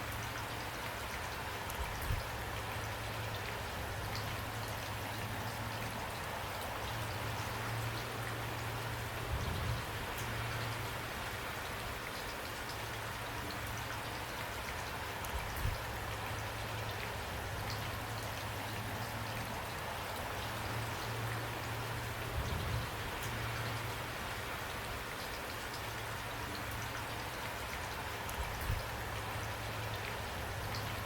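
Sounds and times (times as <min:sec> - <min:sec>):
rain hiss: 0:00.0 - 0:31.0.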